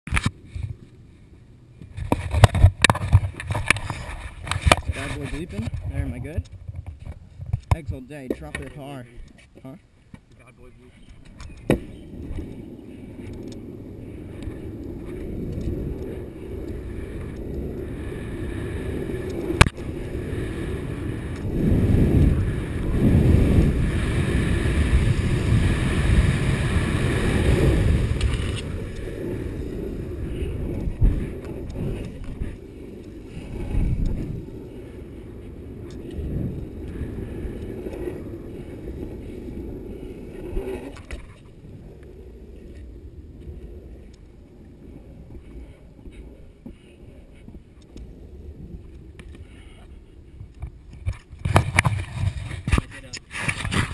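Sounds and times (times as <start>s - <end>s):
skateboard wheels rolling on wet road: 0.1s - 53.9s.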